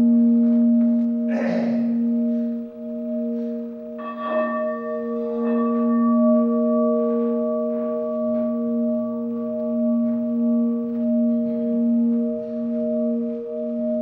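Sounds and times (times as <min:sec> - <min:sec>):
singing bowls ringing: 0:00.0 - 0:14.0.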